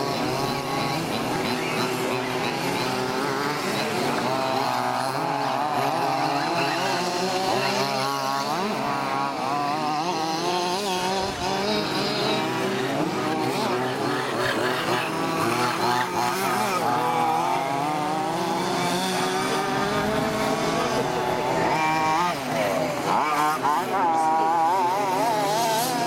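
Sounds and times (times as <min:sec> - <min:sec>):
rc buggy engines buzzing and revving: 0:00.0 - 0:26.0.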